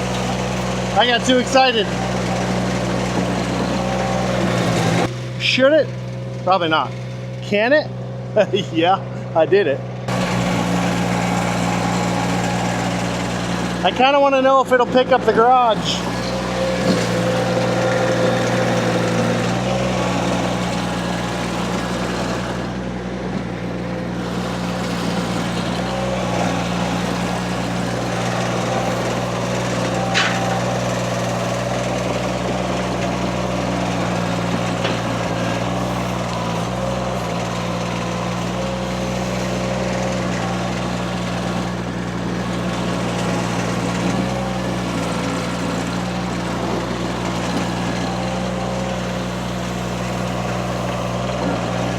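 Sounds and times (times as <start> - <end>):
skid steer engine running: 0.0 - 51.9.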